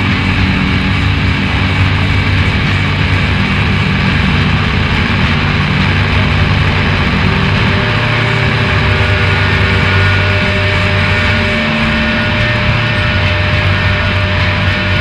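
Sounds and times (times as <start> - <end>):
low rumbling drone: 0.0 - 15.0
thin steady tones: 0.0 - 15.0.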